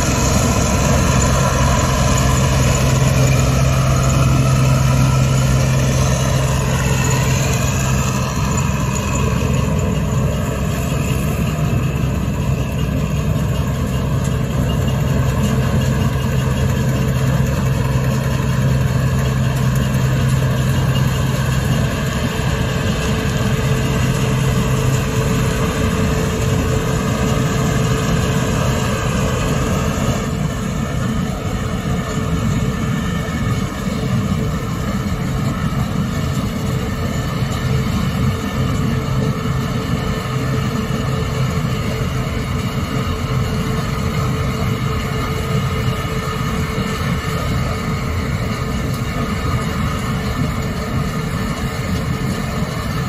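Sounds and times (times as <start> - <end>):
diesel engine drone: 0.0 - 53.0
machinery whine: 0.0 - 53.0.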